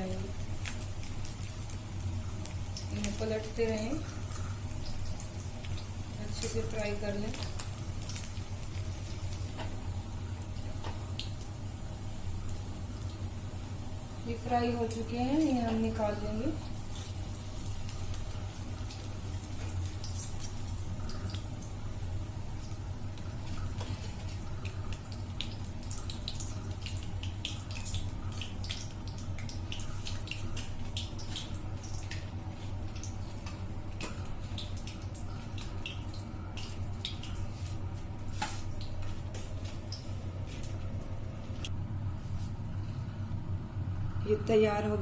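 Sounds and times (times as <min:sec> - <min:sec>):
food frying in hot oil: 0:00.0 - 0:40.5
steady low hum: 0:00.0 - 0:45.0.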